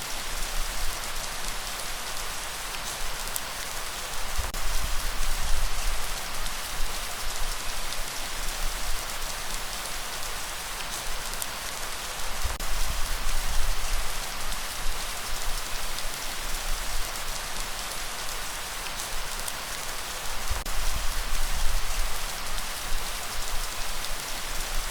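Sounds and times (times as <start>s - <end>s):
light rain falling: 0.0s - 24.9s.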